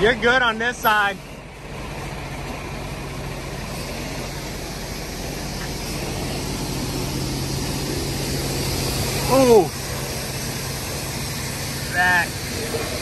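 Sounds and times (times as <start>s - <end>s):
engine low hum: 0.0s - 13.0s.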